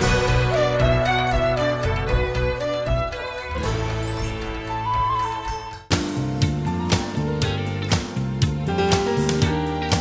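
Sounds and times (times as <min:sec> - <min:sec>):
instrumental theme music: 0:00.0 - 0:10.0.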